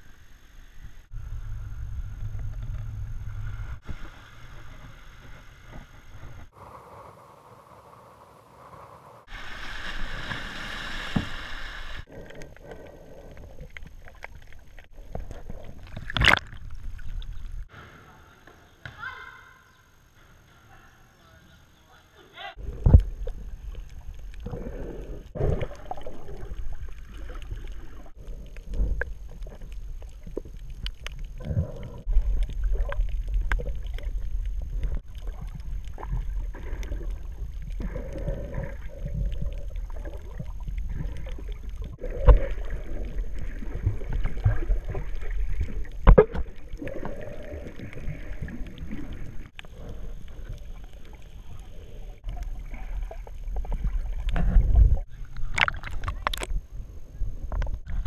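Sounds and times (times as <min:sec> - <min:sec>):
underwater rumble of moving water: 0:00.0 - 0:17.7, 0:22.6 - 0:58.0.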